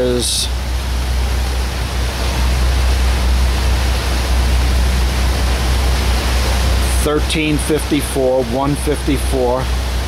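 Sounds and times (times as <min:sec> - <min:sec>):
boat engine drone: 0:00.0 - 0:10.0
rushing wind and water: 0:00.0 - 0:10.0.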